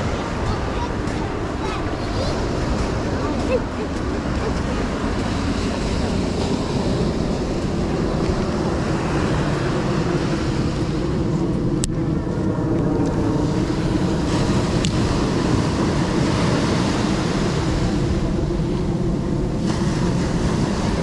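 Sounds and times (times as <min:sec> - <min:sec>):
ocean surf washing: 0:00.0 - 0:21.0
wind rumbling on microphone: 0:00.0 - 0:21.0.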